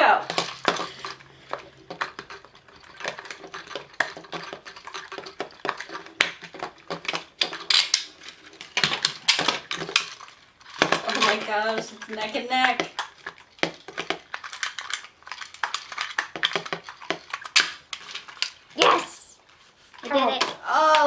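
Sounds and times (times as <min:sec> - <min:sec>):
toy handcuffs clicking and rattling: 0:00.2 - 0:19.0.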